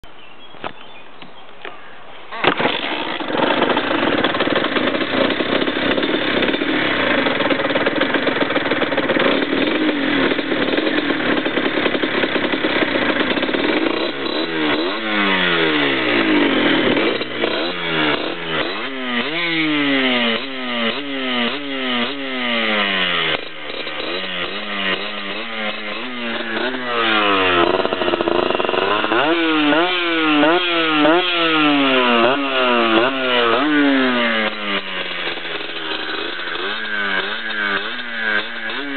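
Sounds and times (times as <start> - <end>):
engine throttle blips: 2.3 - 38.9
two-stroke engine buzzing: 2.4 - 38.9.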